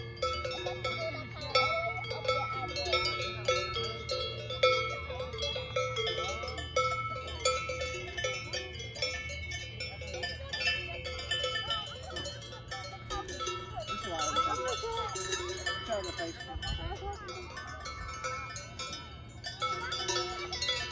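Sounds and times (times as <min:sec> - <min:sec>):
cowbells clanking: 0:00.0 - 0:20.9.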